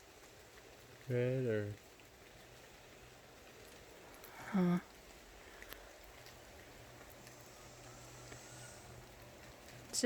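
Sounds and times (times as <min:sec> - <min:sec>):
faint outdoor night hiss: 0:00.0 - 0:10.0.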